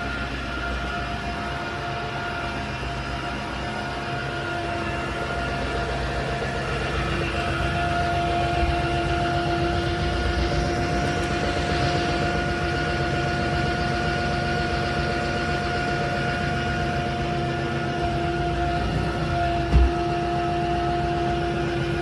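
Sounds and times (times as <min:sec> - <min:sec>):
vacuum motor hum and whine: 0:00.0 - 0:22.0.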